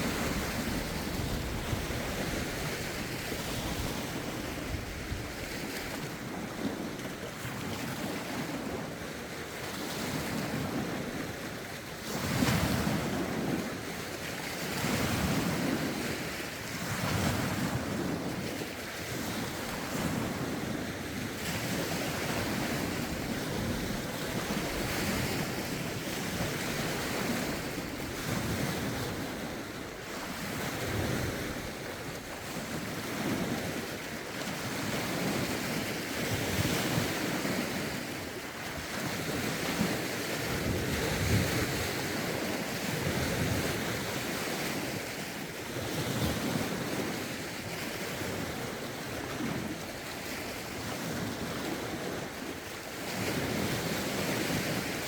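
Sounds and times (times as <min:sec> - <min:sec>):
wind buffeting microphone: 0:00.0 - 0:13.9, 0:14.6 - 0:55.0
lake waves washing ashore: 0:00.0 - 0:55.0.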